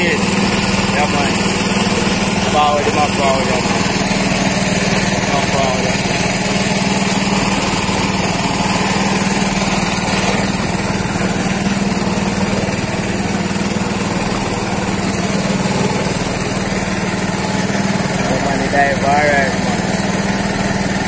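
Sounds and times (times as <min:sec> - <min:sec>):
air compressor engine humming: 0:00.0 - 0:21.0.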